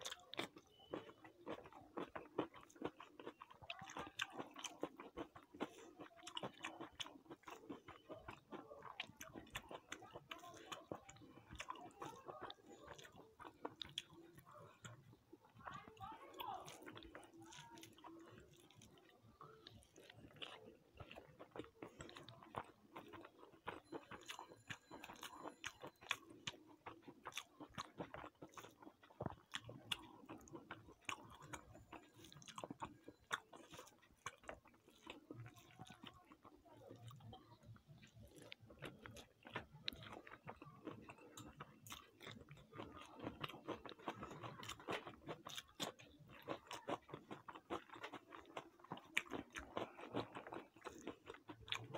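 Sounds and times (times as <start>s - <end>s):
person chewing food: 0.0s - 51.9s.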